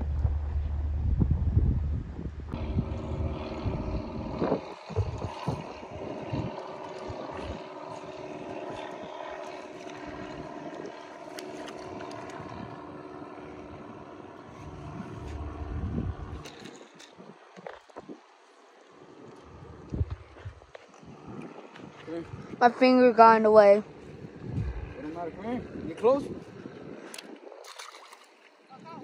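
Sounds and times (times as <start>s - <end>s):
wind buffeting microphone: 0.0s - 18.4s, 19.4s - 29.0s
motor drone: 0.0s - 28.6s.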